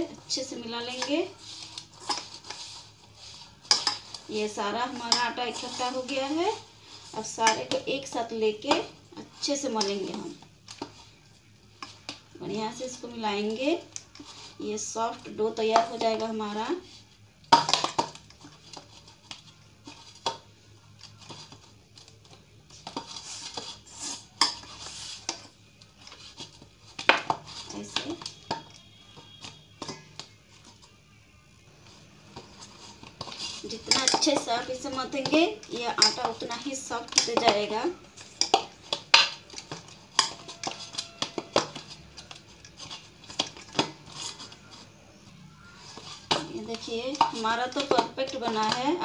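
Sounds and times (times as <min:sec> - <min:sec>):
dough kneaded in steel bowl: 0:00.0 - 0:49.0.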